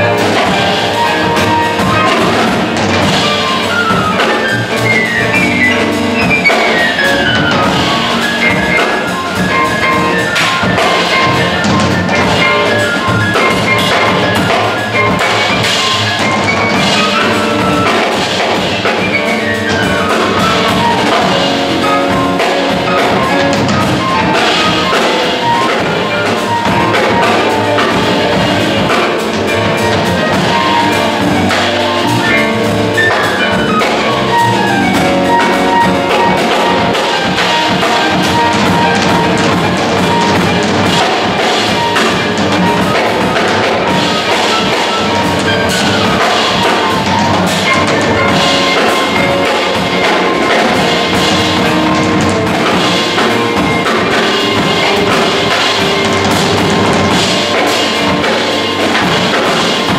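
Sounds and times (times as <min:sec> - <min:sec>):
drummer playing cymbals: 0:00.0 - 0:59.9
fast descending melodic runs: 0:00.0 - 0:59.9
jazz quartet playing: 0:00.0 - 0:59.9.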